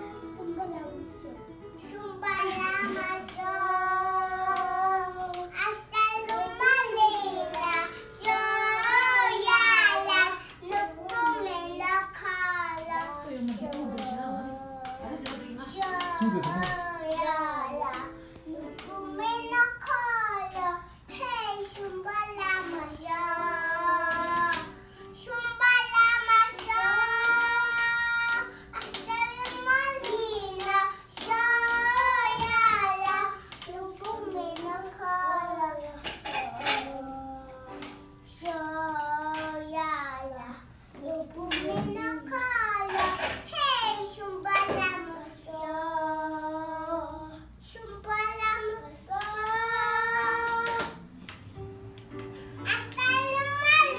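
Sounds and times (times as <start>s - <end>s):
young children singing: 1.8s - 51.3s, 52.5s - 53.9s.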